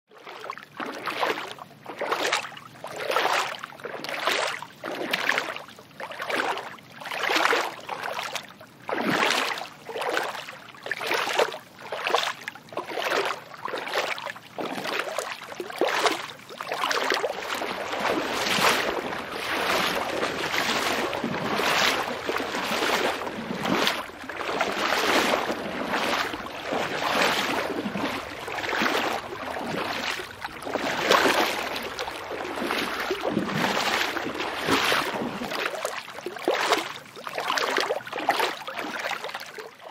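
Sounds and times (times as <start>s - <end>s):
footsteps splashing through water: 0.1s - 39.9s.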